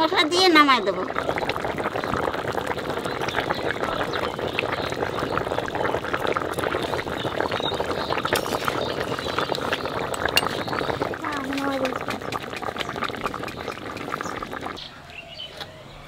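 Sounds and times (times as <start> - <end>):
curry bubbling and popping: 0.0 - 14.9.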